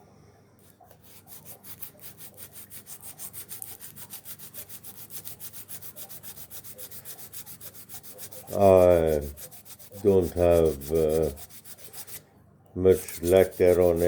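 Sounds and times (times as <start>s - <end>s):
sandpaper scraping wood: 1.0s - 12.2s, 12.9s - 14.0s.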